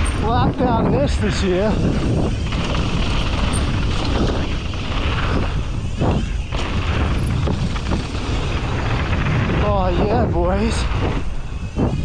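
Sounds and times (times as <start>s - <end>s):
rumble of tyres on dirt: 0.0s - 12.0s
wind buffeting microphone: 0.0s - 12.0s
bike knocks and rattles: 1.9s - 12.0s.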